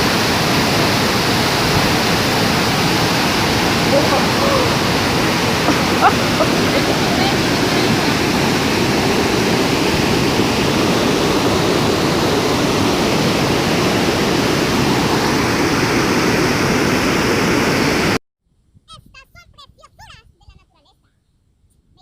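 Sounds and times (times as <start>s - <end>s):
waterfall roaring: 0.0s - 18.2s.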